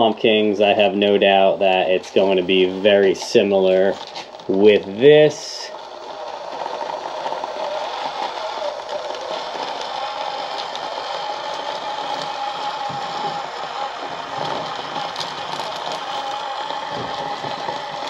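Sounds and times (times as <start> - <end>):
small electric motor whining: 0.0 - 18.0.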